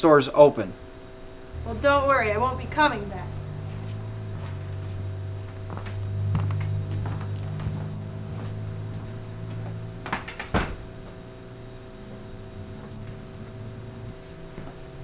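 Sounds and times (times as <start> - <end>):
low hum: 0.8 - 14.6.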